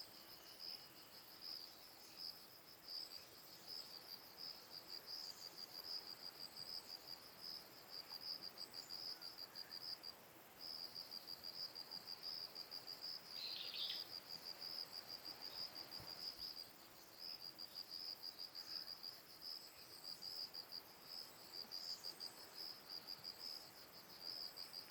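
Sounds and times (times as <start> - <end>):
short insect call: 0.0 - 10.2, 10.8 - 24.9
insect chirping trill: 0.1 - 24.9.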